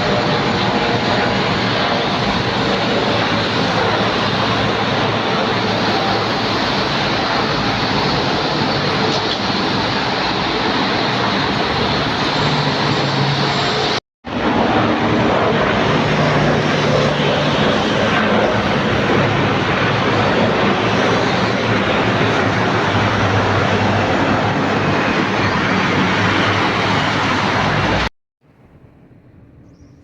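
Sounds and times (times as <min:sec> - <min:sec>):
jet engine roar: 0:00.0 - 0:28.1.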